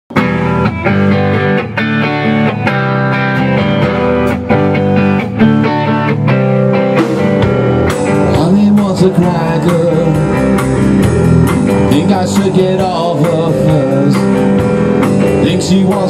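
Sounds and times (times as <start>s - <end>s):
drums: 0.1s - 16.0s
electric guitar chords: 0.1s - 16.0s.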